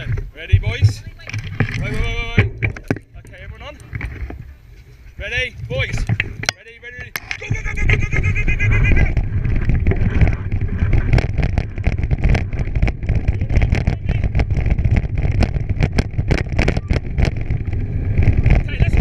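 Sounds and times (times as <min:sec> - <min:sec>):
sharp clicks and knocks: 0:00.0 - 0:04.4, 0:05.7 - 0:07.6, 0:09.1 - 0:19.0
bike rattling over rough trail: 0:00.0 - 0:19.0
wind buffeting microphone: 0:00.0 - 0:19.0.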